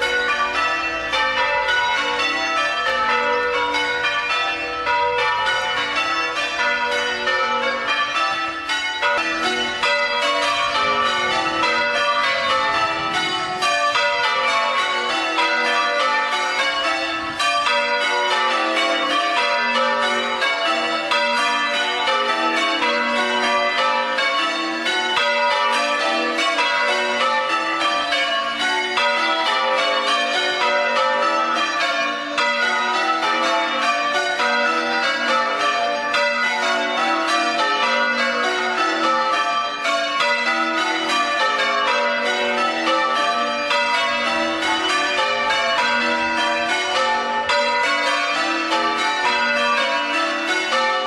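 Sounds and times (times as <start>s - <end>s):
church bells ringing: 0.0s - 51.0s.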